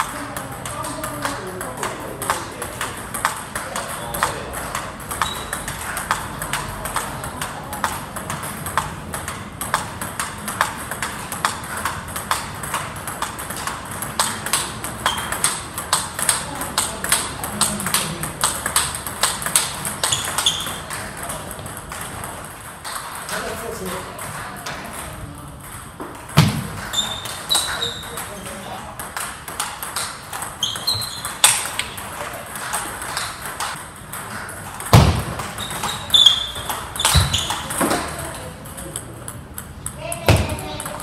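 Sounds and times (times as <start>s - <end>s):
table tennis ball clicks: 0.0s - 41.0s.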